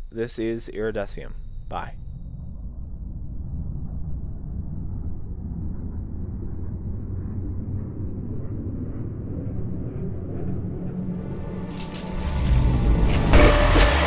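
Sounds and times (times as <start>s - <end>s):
deep rumbling swell: 0.7s - 13.2s.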